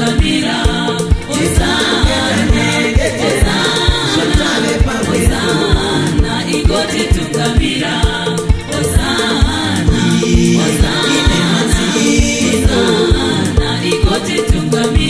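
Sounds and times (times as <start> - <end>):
bass drum beat and band: 0.0 - 15.0
group singing gospel song: 0.0 - 15.0.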